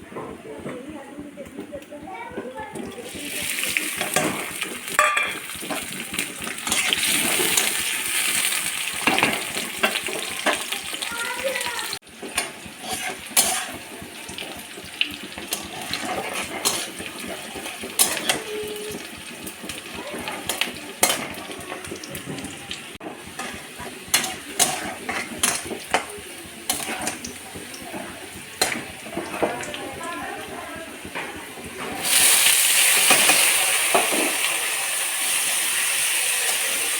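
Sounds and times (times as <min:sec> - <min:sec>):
metal utensils clanking on pots: 0:00.0 - 0:34.7.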